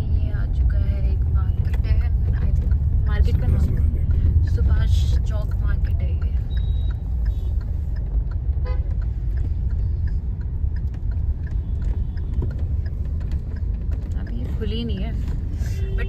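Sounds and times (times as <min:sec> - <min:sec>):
car driving rumble inside cabin: 0:00.0 - 0:16.0.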